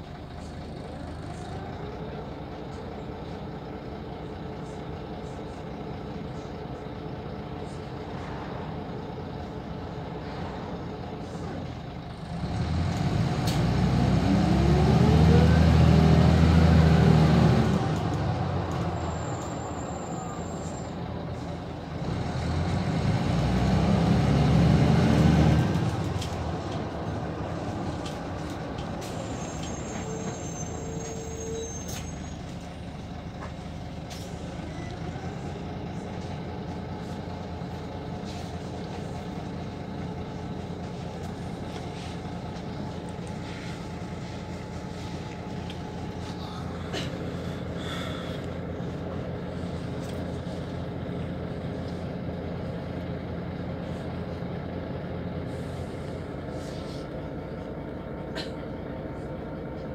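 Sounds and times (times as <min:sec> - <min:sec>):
bus engine surging under acceleration: 0:00.0 - 0:59.9.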